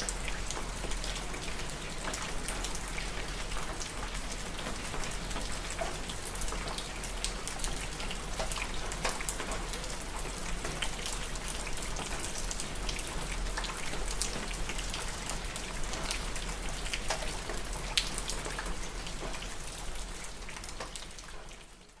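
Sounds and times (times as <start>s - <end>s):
raindrops striking close by: 0.0s - 22.0s
steady rain: 0.0s - 22.0s.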